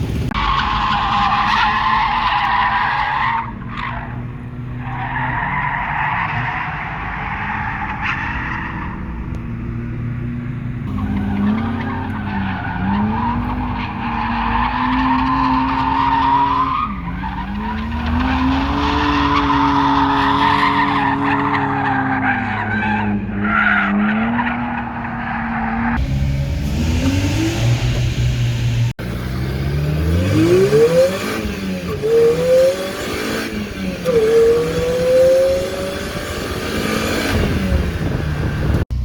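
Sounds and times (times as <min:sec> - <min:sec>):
car engine revving: 0:00.0 - 0:39.0
tire squealing: 0:00.0 - 0:39.0.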